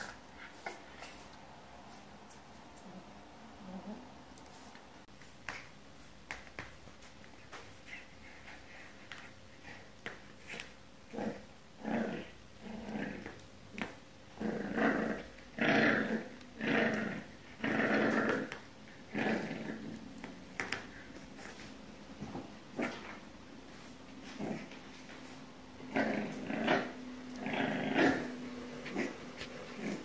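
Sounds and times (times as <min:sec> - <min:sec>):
puppy growling: 0:00.0 - 0:02.1, 0:07.8 - 0:30.0.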